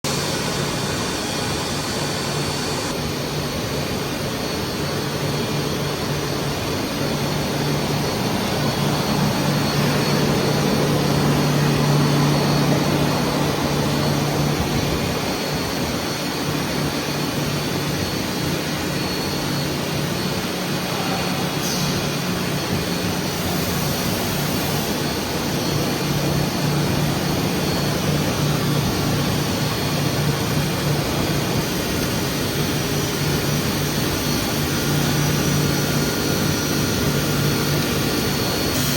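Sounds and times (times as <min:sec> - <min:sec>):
machine noise with low hum: 0:00.0 - 0:38.9.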